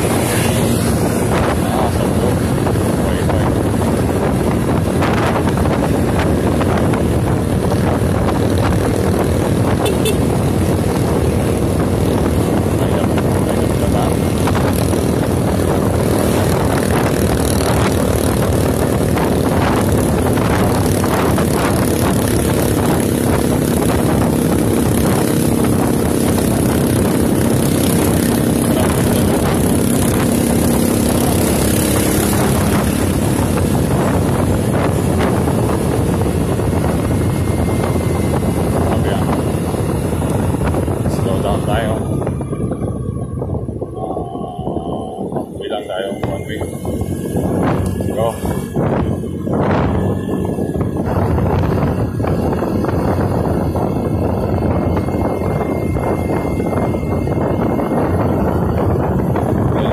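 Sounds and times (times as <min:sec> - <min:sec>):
motorcycle engine drone: 0:00.0 - 0:59.9
wind noise on microphone: 0:00.0 - 0:59.9.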